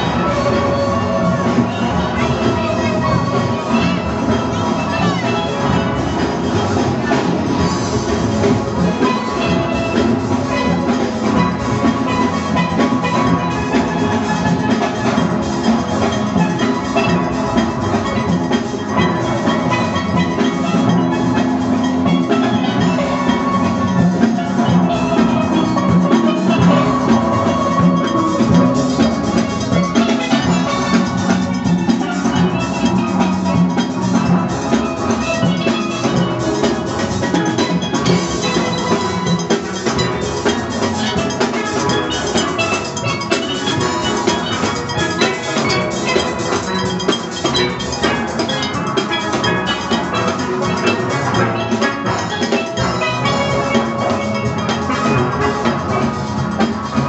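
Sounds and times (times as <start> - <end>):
drum and percussion beat: 0.0 - 57.0
steel pans playing: 0.0 - 57.0.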